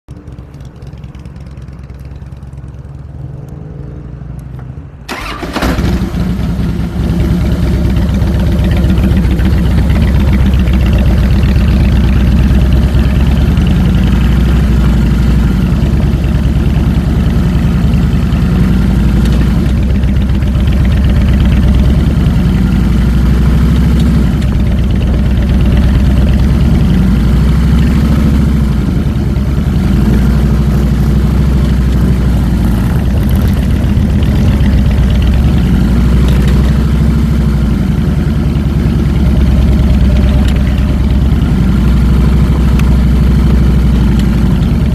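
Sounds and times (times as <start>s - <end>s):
motorcycle engine running: 0.0s - 3.6s, 5.1s - 44.9s.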